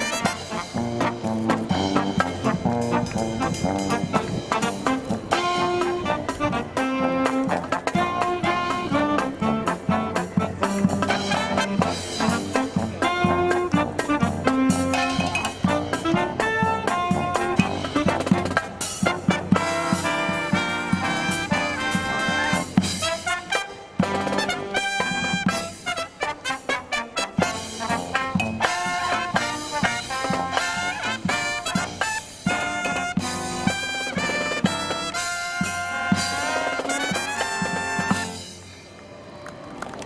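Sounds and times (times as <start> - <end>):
brass marching band playing: 0.0 - 39.2.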